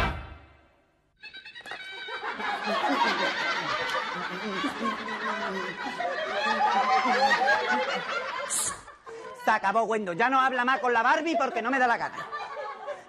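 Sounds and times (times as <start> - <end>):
audience laughing: 1.3 - 13.0.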